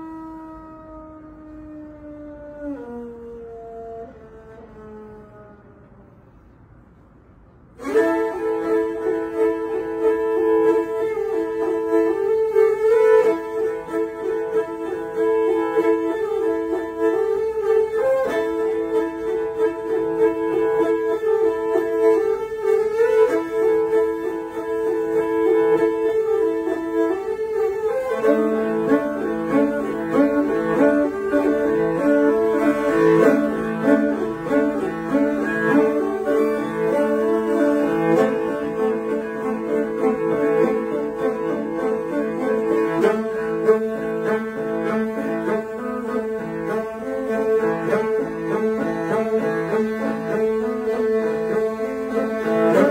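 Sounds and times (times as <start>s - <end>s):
bowed fiddles playing: 0.0s - 6.5s, 7.8s - 52.9s.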